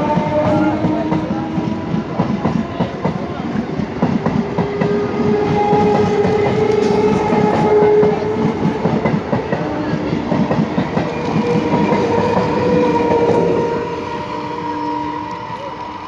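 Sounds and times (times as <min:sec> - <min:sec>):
train rumble: 0:00.0 - 0:16.0
train whine: 0:00.0 - 0:16.0.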